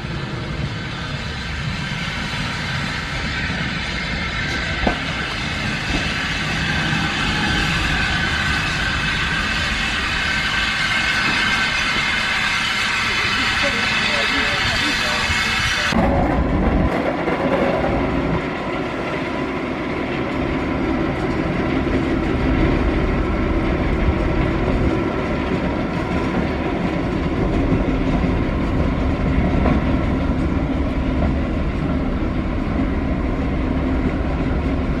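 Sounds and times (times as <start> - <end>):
train rumble and hum: 0.0 - 35.0.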